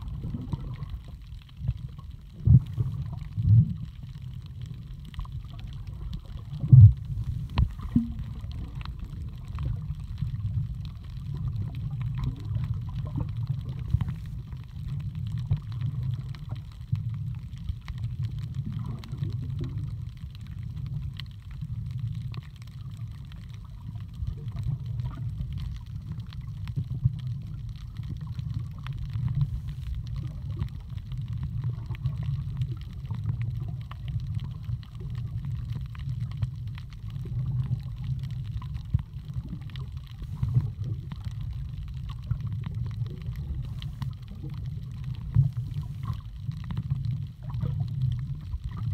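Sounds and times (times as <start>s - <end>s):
underwater rumble of moving water: 0.0s - 48.9s.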